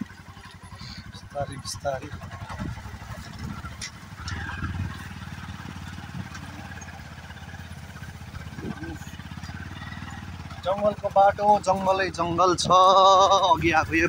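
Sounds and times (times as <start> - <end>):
small motorbike engine running: 0.0 - 14.0.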